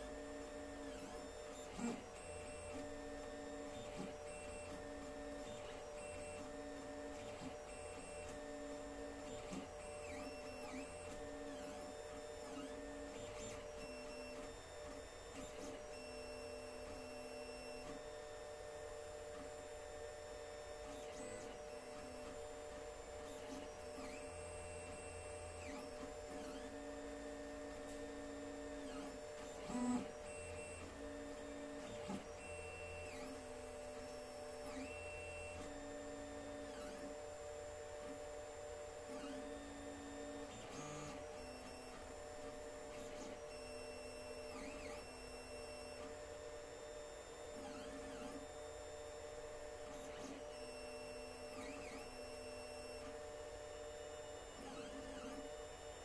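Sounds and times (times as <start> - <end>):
steady printer hum: 0.0 - 56.0.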